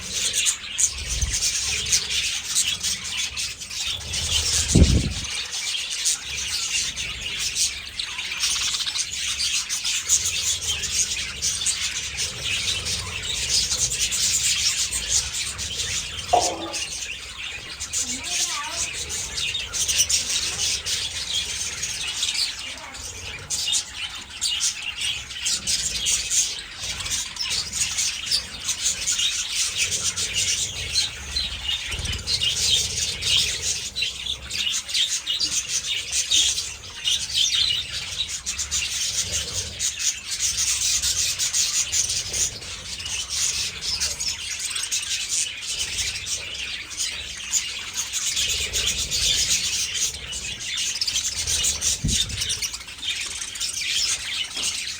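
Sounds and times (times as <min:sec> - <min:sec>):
budgerigars chirping: 0:00.0 - 0:54.9.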